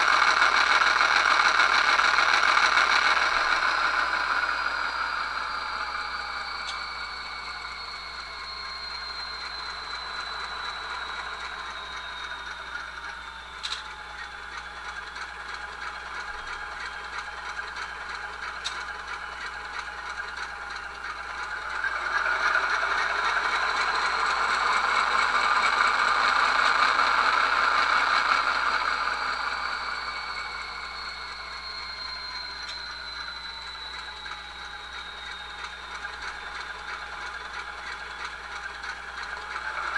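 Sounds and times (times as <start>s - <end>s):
diesel engine sound from small speaker: 0.0s - 39.9s
high whine falling in pitch: 0.0s - 39.9s.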